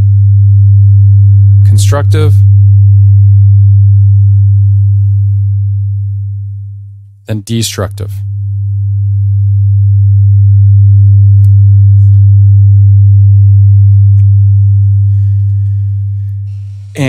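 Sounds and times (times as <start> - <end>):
low beating sine tone hum: 0.0 - 17.0.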